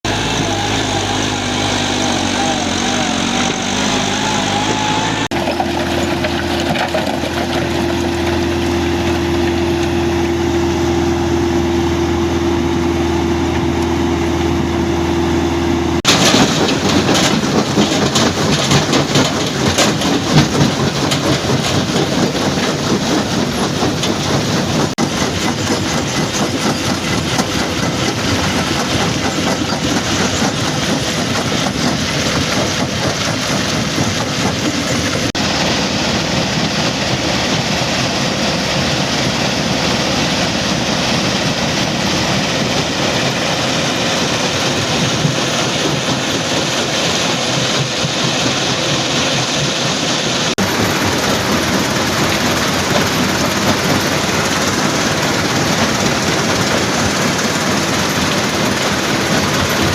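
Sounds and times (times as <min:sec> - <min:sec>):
machinery engine hum: 0:00.0 - 0:59.9
rock crusher rattling clatter: 0:00.1 - 0:10.8, 0:16.0 - 0:59.9.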